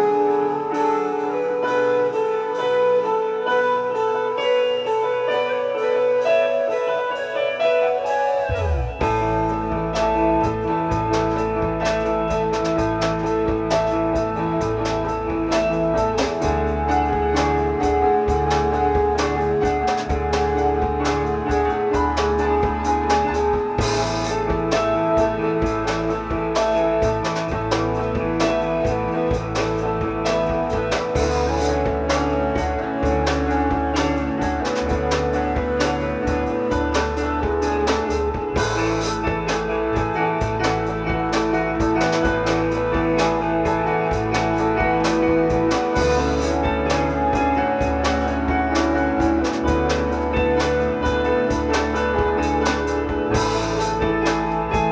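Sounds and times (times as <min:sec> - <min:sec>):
guitar: 0:00.0 - 0:54.9
drum kit beat: 0:07.7 - 0:54.9
low bass line: 0:08.3 - 0:54.9.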